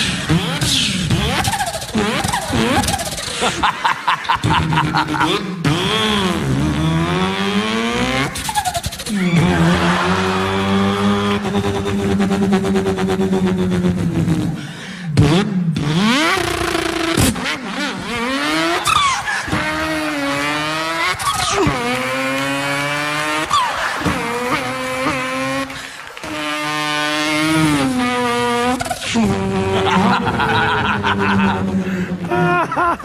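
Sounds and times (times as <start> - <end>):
man imitating engine with voice: 0.0 - 3.7, 4.4 - 32.8.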